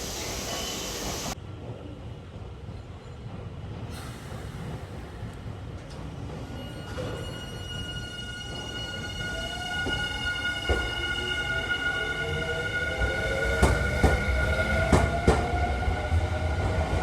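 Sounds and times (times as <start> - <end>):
low train rumble: 0.0 - 17.0
train rushing noise: 0.0 - 17.0.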